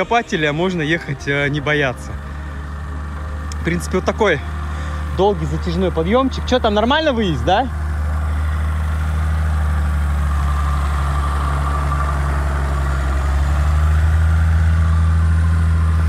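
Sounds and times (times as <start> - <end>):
suv engine running under load: 0.0 - 16.0.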